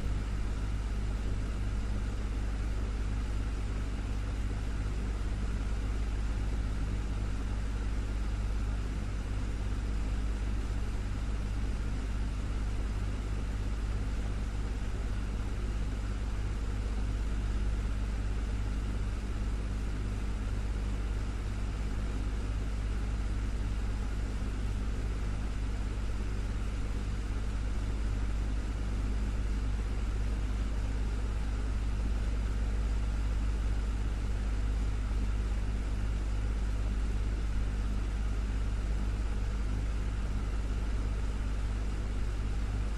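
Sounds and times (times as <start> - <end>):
desktop fan running: 0.0 - 42.9.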